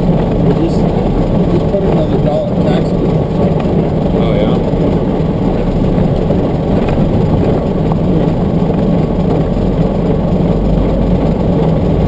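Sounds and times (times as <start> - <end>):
road noise inside a cab: 0.0 - 12.0
vehicle engine noise: 0.0 - 12.0.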